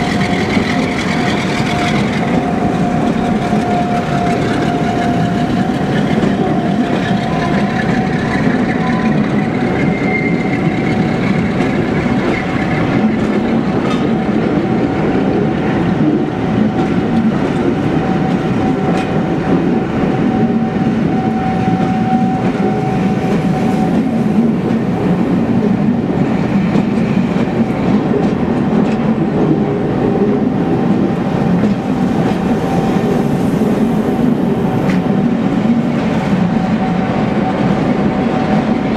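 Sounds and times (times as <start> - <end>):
diesel train rumbling past: 0.0 - 38.9.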